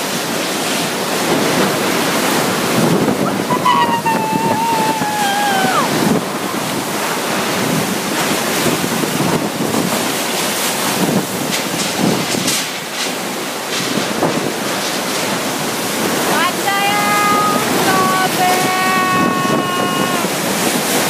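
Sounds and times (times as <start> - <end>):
strong wind and driving rain: 0.0 - 21.0
wind gusts buffeting microphone: 0.0 - 21.0.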